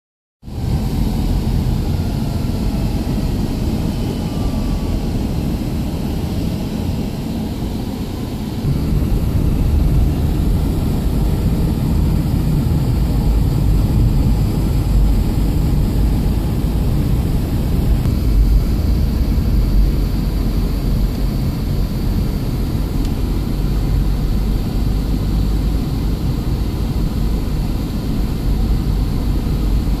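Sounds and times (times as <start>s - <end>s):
car engine and tyres rumbling: 0.5s - 30.0s.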